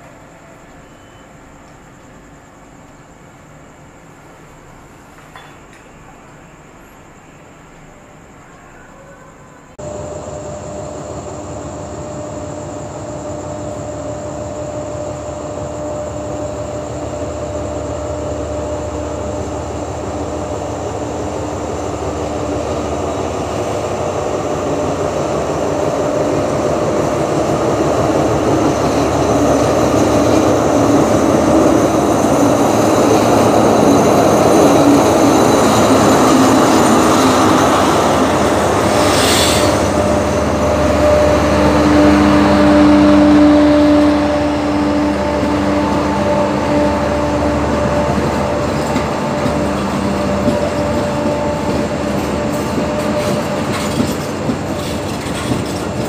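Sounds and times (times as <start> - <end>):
diesel locomotive approaching: 0.0 - 56.0.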